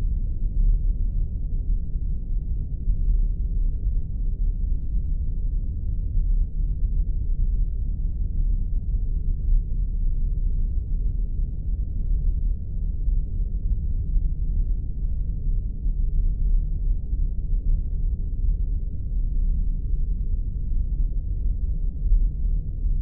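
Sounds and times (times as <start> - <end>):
deep spaceship rumble: 0.0 - 23.0.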